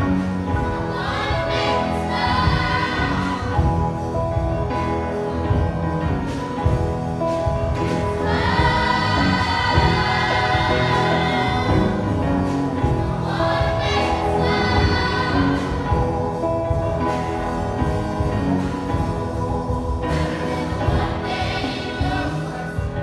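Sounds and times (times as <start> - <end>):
choir singing gospel music: 0.0 - 23.0
instrumental accompaniment: 0.0 - 23.0.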